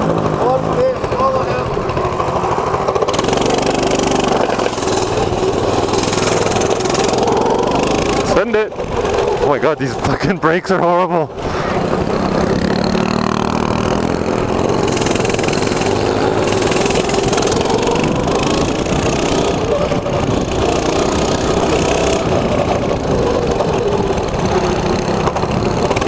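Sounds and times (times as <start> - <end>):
mini bike engine: 0.0 - 26.0.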